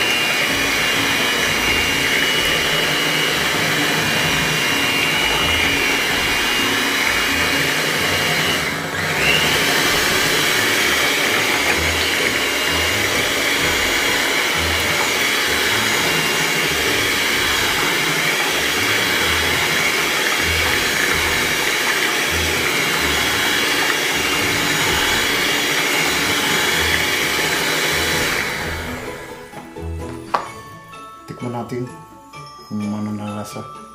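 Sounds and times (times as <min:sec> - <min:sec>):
electric hand mixer whirring: 0:00.0 - 0:31.1.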